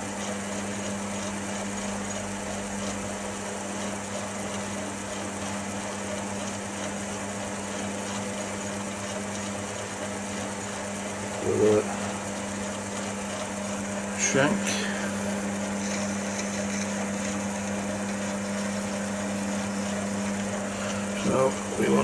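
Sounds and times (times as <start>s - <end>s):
lathe motor hum and whirr: 0.0s - 22.0s.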